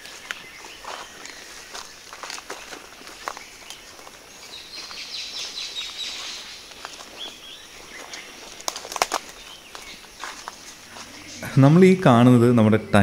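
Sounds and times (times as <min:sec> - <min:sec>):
footsteps crunching on forest floor: 0:00.0 - 0:12.0
bird chirping: 0:00.0 - 0:13.0.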